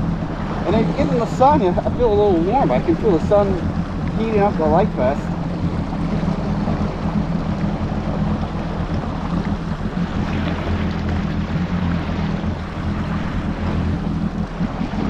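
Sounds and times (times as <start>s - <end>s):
jet ski engine running: 0.0s - 15.0s
water rushing along hull: 0.0s - 15.0s.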